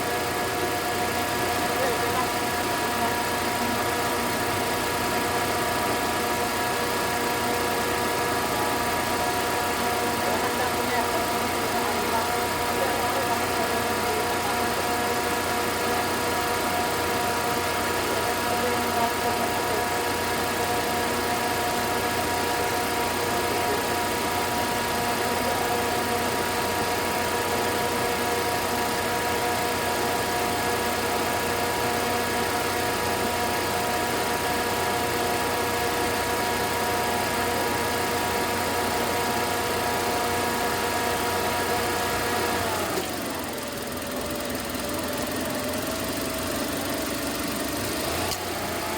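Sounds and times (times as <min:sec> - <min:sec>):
pickup engine idling with whine: 0:00.0 - 0:48.9.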